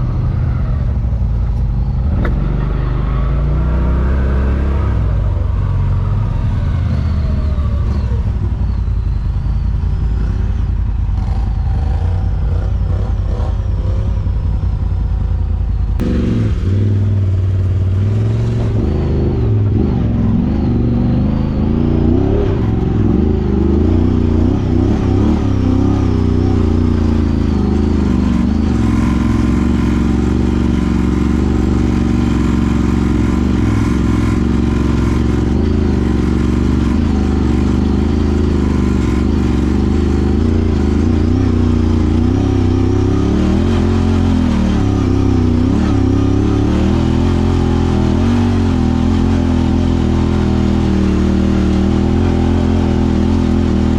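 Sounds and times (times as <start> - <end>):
utility vehicle engine revving: 0.0 - 53.9.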